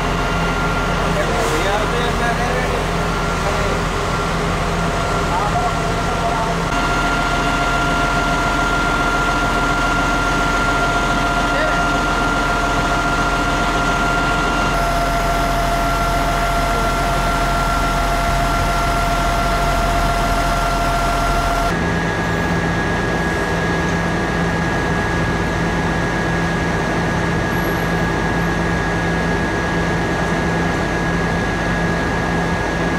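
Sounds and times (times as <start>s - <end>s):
heavy vehicle engine humming: 0.0s - 32.9s.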